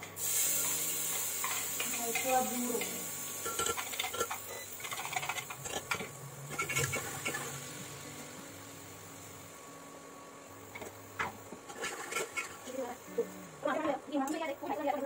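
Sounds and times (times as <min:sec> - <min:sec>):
onion sizzling in hot oil: 0:00.0 - 0:13.1.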